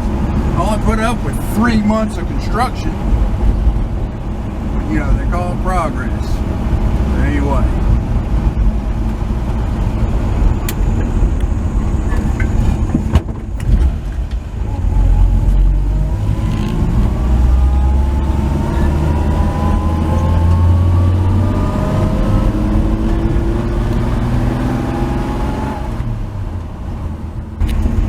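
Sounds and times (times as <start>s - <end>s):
pickup truck engine accelerating: 0.0s - 28.0s.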